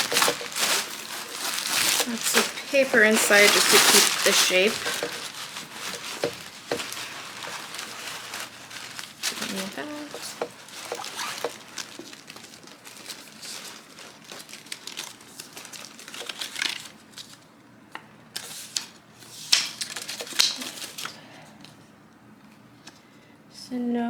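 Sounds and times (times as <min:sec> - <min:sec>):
packing paper crinkling: 0:00.0 - 0:17.5, 0:18.4 - 0:21.2.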